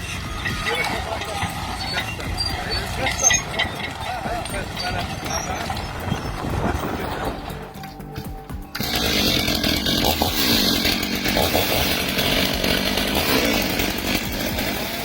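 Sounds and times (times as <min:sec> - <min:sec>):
background music: 0:00.0 - 0:15.0
chainsaw running: 0:00.0 - 0:15.0.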